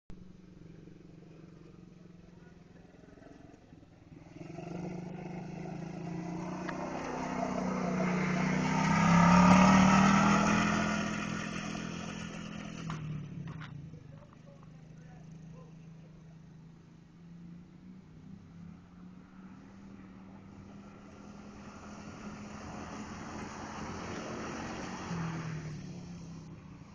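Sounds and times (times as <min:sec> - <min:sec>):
atv engine passing: 0:00.2 - 0:26.9.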